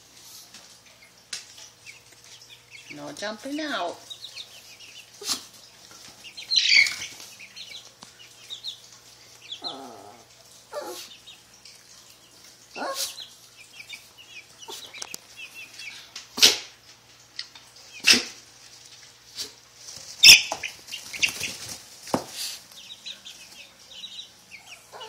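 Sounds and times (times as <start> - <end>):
chicks peeping: 0.2 - 16.7, 17.3 - 25.0.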